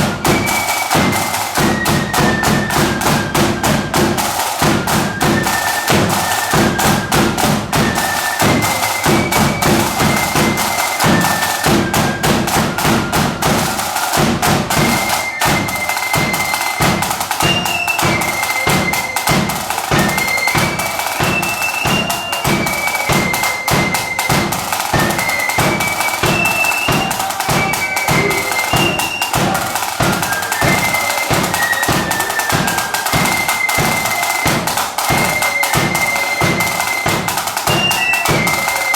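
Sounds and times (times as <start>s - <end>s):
snare and bass drums: 0.0s - 38.7s
flute melody: 0.0s - 38.9s.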